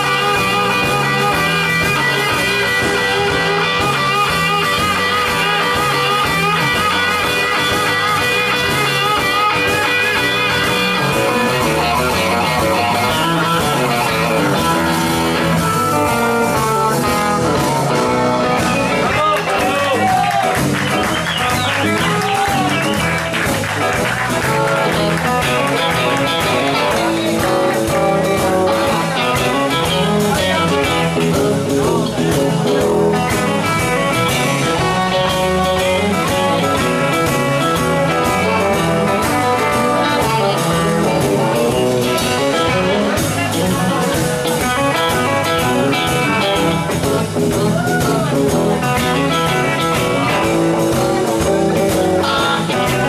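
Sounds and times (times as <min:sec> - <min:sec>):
electric blues band playing: 0:00.0 - 0:53.0.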